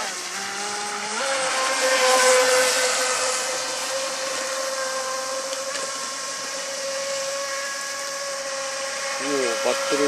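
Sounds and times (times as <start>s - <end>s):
high electric motor whine: 0.0s - 10.0s.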